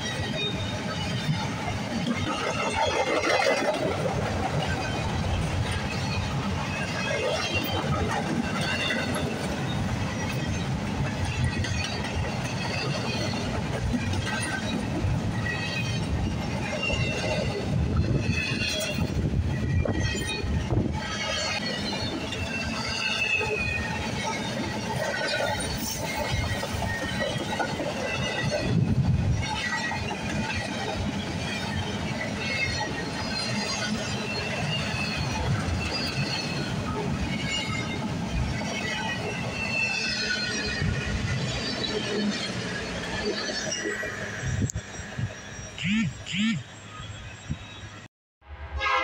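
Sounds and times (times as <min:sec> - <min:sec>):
train wheels rumbling on track: 0:00.0 - 0:48.0
wheel squeal: 0:04.6 - 0:45.8.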